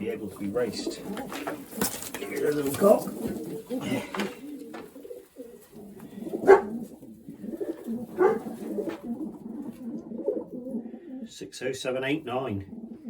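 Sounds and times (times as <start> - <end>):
pigeons cooing: 0.0 - 11.5, 12.1 - 13.0.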